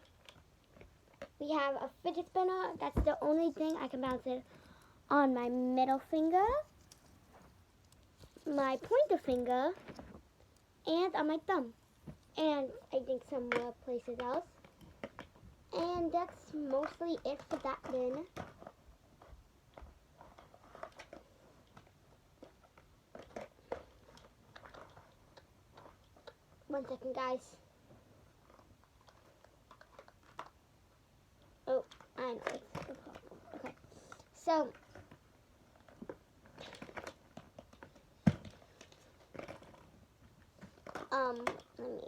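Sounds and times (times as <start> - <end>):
small toys rustling and clicking: 0.0 - 42.0.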